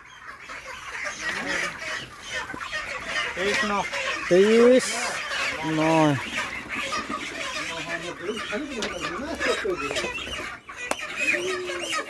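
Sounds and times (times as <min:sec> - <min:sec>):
chicken squawks: 0:00.0 - 0:12.0
chickens clucking: 0:00.0 - 0:12.0.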